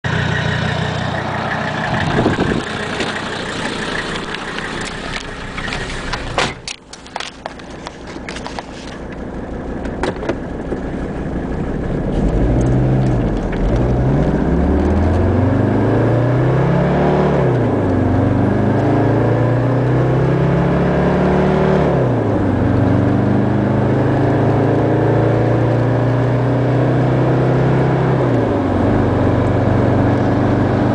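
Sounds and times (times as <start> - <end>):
diesel engine revving: 0.0 - 6.8, 8.3 - 30.9.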